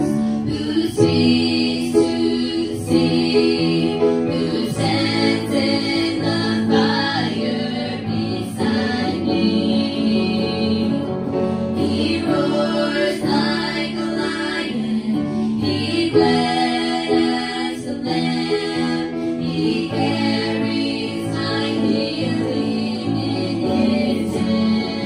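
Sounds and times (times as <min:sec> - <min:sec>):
girls and woman singing gospel: 0:00.0 - 0:25.0.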